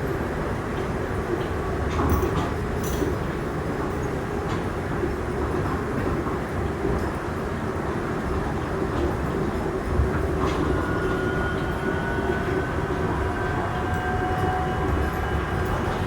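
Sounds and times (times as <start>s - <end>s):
train car rumbling on guideway: 0.1s - 16.0s.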